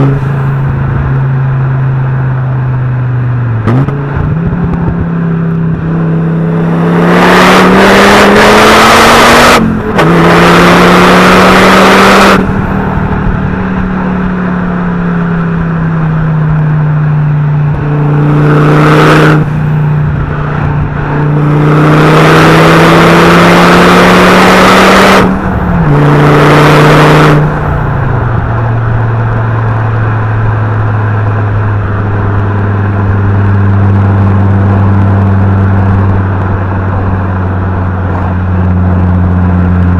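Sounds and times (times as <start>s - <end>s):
turbo engine accelerating: 0.0s - 39.9s.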